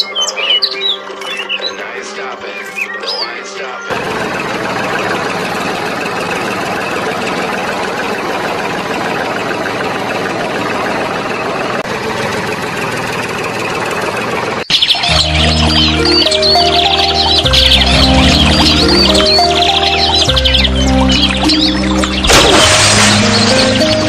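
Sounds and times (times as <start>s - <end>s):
engine running with rattle: 3.9s - 24.0s.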